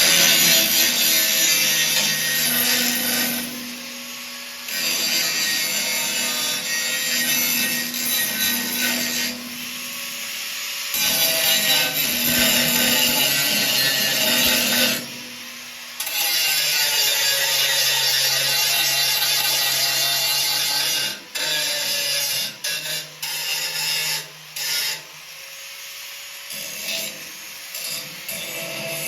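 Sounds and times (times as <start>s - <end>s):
power tool grinding steel: 0.0s - 29.0s.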